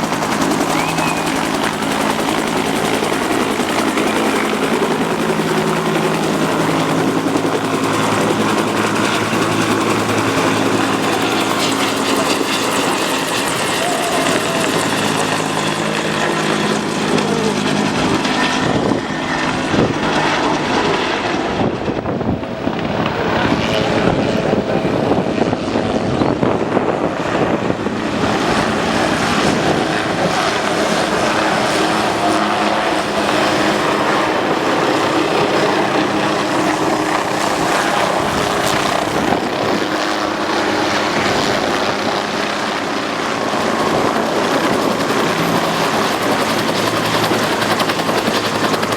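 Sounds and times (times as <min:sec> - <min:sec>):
aircraft engine and propeller: 0:00.0 - 0:48.9.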